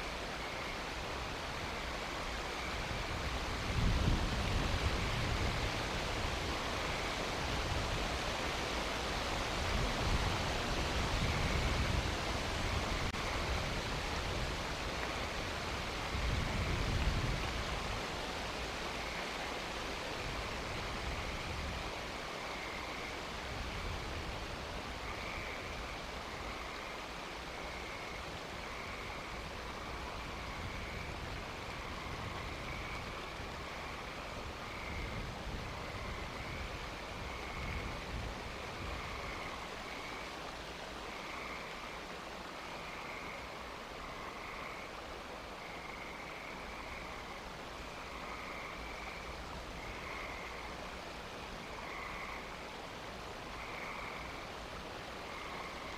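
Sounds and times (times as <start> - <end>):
steady hiss: 0.0 - 55.9.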